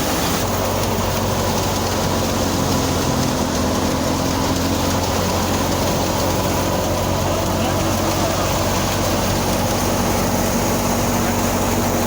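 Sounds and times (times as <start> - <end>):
harvesting machine engine running: 0.0 - 12.0.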